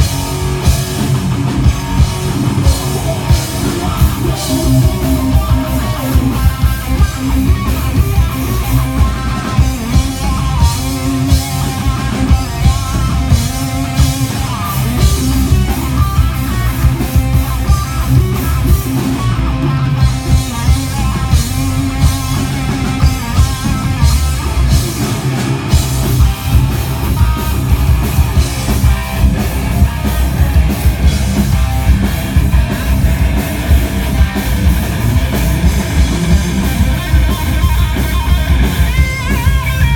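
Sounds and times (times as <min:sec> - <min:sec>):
distorted electric guitars: 0:00.0 - 0:39.9
drum kit fast beat: 0:00.0 - 0:39.9.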